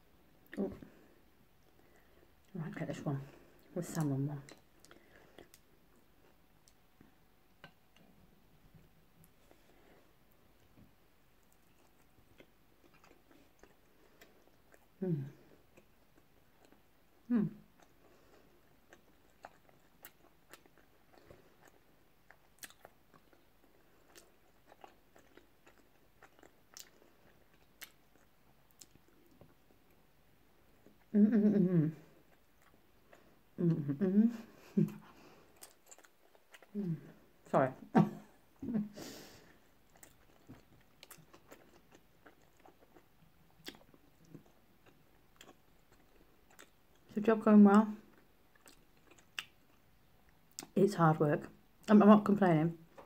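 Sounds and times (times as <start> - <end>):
close-up chewing: 3.4 - 30.1, 32.0 - 33.6, 34.4 - 37.6, 38.3 - 47.2, 48.0 - 50.8.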